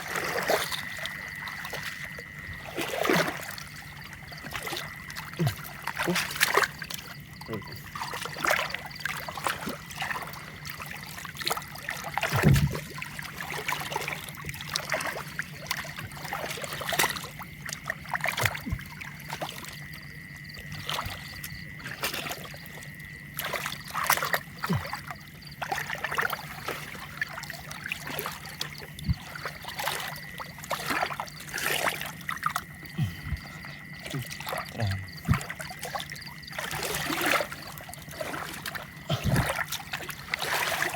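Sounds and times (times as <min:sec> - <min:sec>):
faint steady hum: 0:00.0 - 0:40.9
water splashing and trickling: 0:00.0 - 0:40.9.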